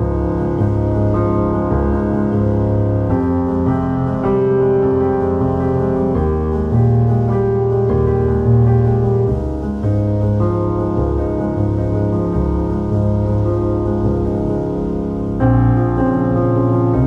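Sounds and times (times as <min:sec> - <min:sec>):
slow held keyboard chords: 0:00.0 - 0:17.0.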